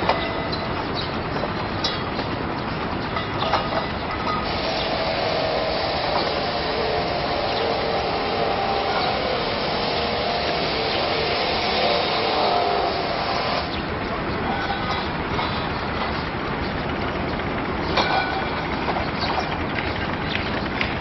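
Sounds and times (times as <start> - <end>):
construction machinery whirring: 0.0 - 21.0.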